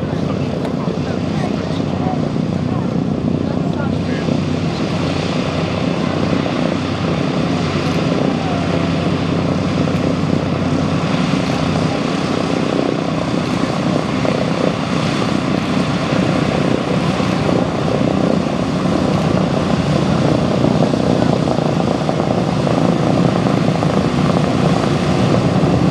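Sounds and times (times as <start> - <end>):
propeller aircraft engines running: 0.0 - 25.9.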